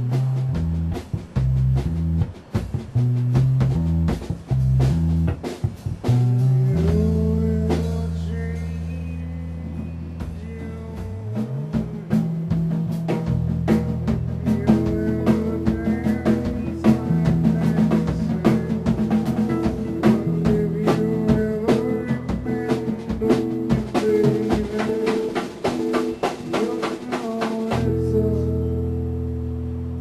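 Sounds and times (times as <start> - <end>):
bass line: 0.0 - 30.0
drum kit beat: 0.0 - 30.0.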